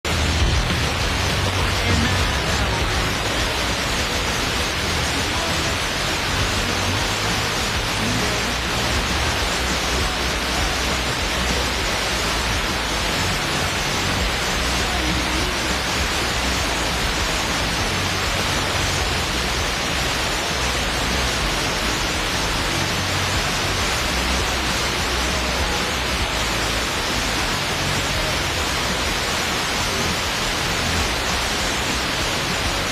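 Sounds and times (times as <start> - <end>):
faint radio programme: 0.0 - 32.9
radio static hiss: 0.0 - 32.9.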